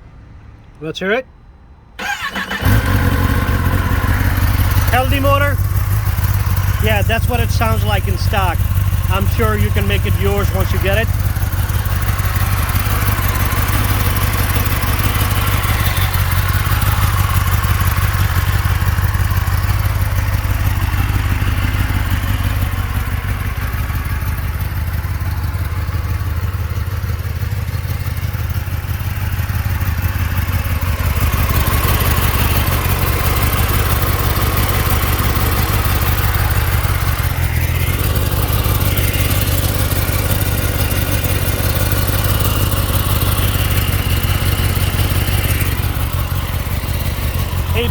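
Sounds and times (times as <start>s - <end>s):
motorcycle engine idling: 2.0s - 47.9s.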